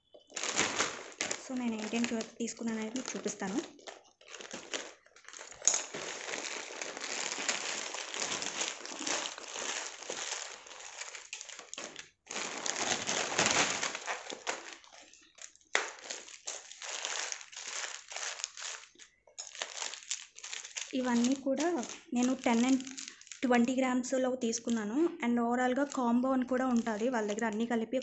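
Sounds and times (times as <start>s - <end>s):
bead packets rustling: 0.0s - 23.5s, 25.8s - 27.8s
plastic wrapping crinkling: 0.0s - 23.8s, 25.7s - 28.0s.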